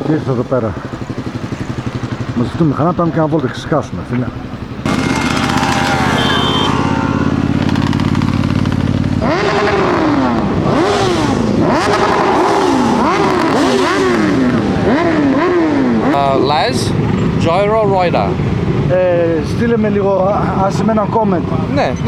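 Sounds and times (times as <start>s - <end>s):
motorcycle engine revving: 0.0s - 3.4s, 4.1s - 22.0s.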